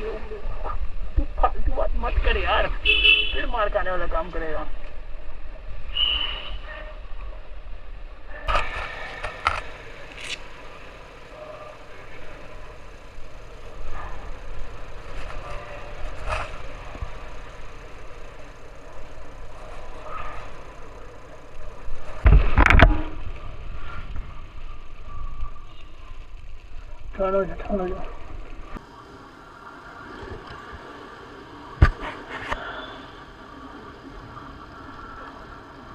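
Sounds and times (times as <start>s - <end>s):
motorcycle engine and road rumble: 0.0s - 35.9s.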